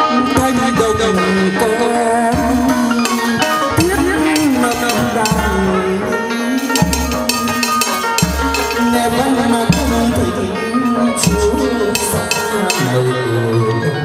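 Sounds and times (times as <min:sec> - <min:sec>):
plucked lute and zither melody: 0:00.0 - 0:14.0
deep drum beat: 0:00.4 - 0:13.1.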